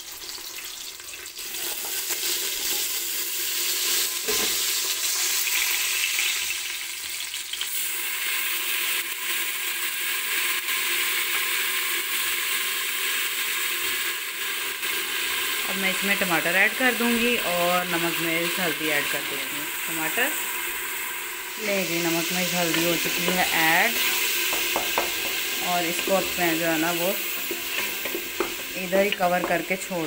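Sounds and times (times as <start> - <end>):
onions sizzling in hot oil: 0.0 - 30.0.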